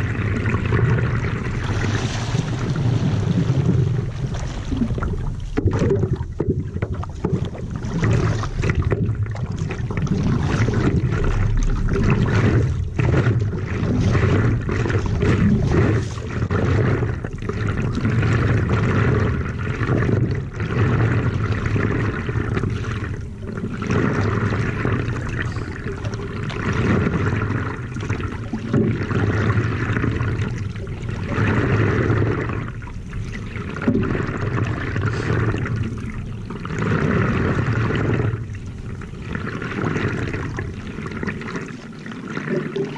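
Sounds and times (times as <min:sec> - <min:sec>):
water splashing along board hull: 0:00.0 - 0:42.9.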